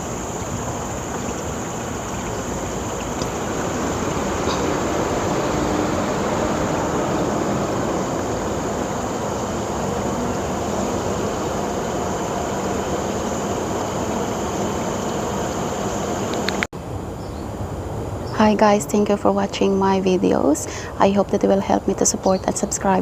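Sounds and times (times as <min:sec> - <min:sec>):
steady rushing noise: 0:00.0 - 0:18.6.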